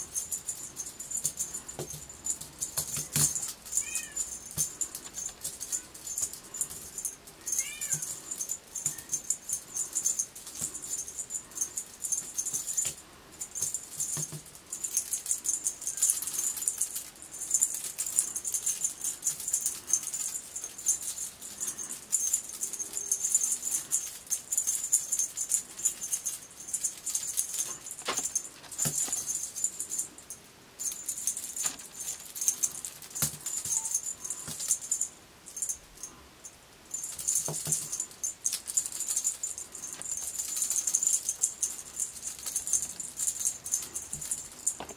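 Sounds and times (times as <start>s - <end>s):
cat toy rattling: 0.0s - 36.2s, 36.9s - 44.9s.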